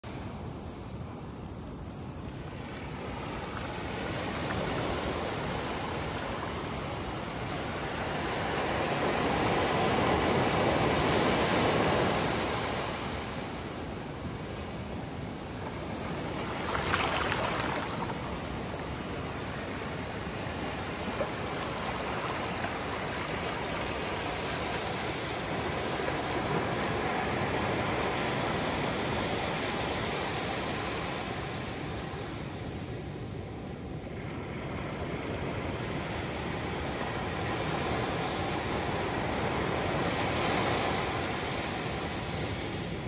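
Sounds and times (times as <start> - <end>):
small waves washing over sand: 2.0 - 43.0.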